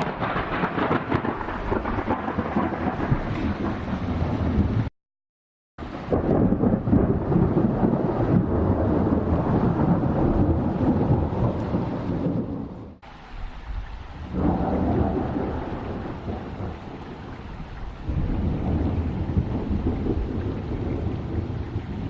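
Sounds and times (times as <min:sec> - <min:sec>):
heavy rain: 0:00.0 - 0:04.9, 0:05.8 - 0:22.0
thunder rumbling: 0:00.0 - 0:04.9, 0:05.8 - 0:13.0, 0:13.7 - 0:22.0.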